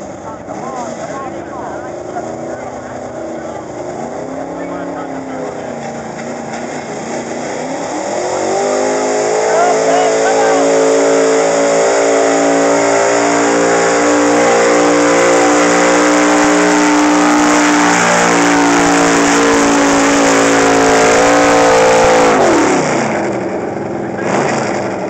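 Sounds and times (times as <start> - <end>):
truck engine revving under load: 0.0 - 25.0.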